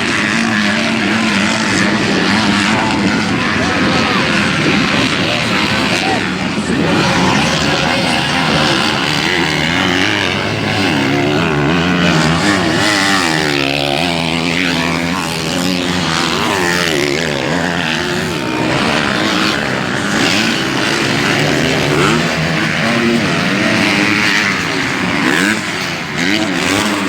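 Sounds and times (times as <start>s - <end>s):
motocross motorcycle engines revving: 0.0s - 27.0s.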